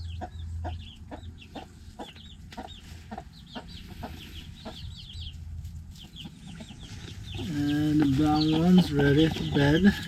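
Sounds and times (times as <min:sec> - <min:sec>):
chicks peeping: 0:00.0 - 0:10.0
hen clucking softly: 0:00.0 - 0:10.0.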